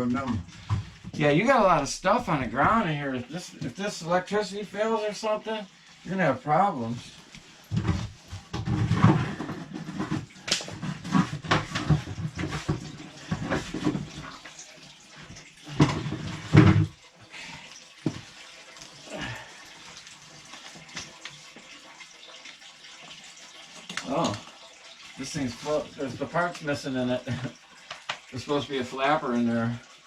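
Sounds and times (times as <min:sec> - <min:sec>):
water splashing and spilling: 0:00.0 - 0:30.0.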